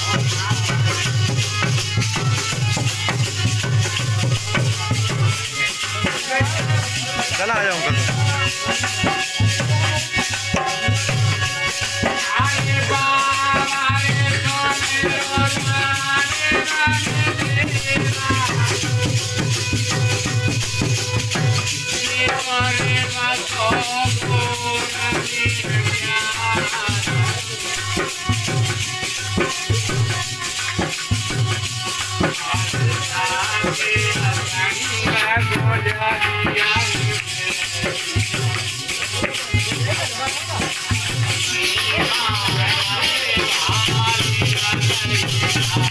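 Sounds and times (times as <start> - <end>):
jingling percussion: 0.0 - 45.9
regular drum beat: 0.0 - 45.9.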